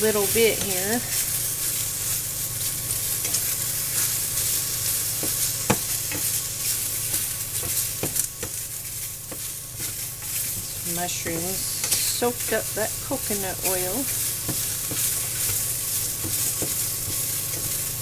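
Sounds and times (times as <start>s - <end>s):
vegetables sizzling in frying pan: 0.0s - 18.0s.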